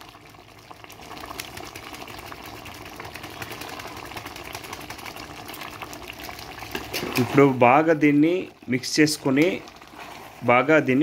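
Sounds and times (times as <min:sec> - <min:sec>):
curry bubbling in a pot: 0:00.0 - 0:11.0.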